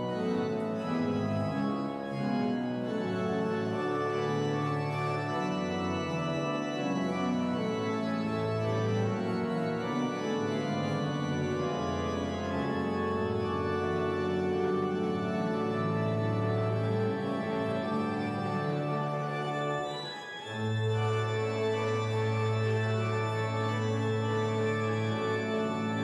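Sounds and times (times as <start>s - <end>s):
church organ playing sustained chords: 0.0s - 26.0s.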